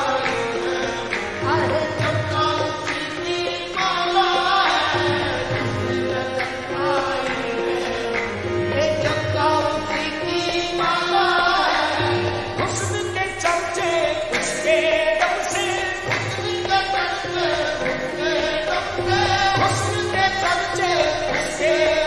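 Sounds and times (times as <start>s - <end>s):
harmonium melody: 0.0s - 22.0s
tabla drumming: 0.0s - 22.0s.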